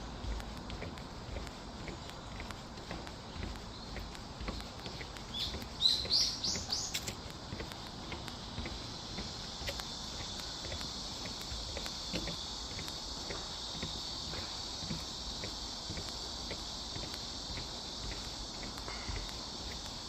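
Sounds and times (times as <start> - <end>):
cicadas droning: 0.0 - 20.0
footsteps crunching on a path: 0.0 - 20.0.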